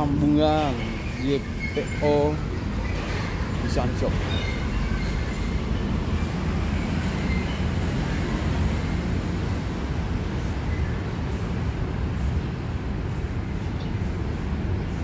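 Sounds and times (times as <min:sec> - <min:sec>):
traffic rumble overhead: 0:00.0 - 0:15.0.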